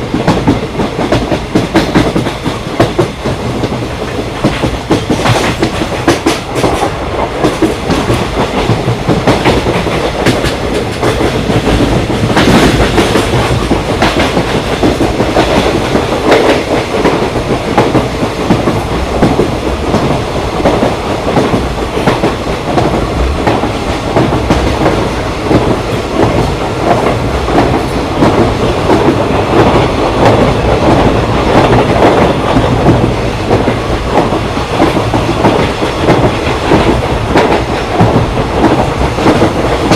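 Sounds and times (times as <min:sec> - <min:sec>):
train coach rumble: 0:00.0 - 0:39.9
wheels knocking on rails: 0:00.0 - 0:39.9.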